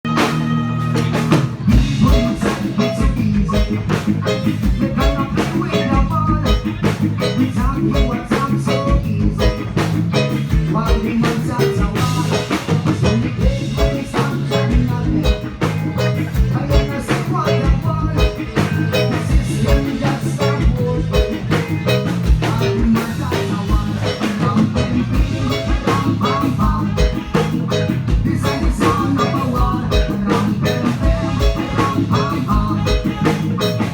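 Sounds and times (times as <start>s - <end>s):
drum kit beat: 0.0s - 33.9s
low bass line: 0.0s - 33.9s.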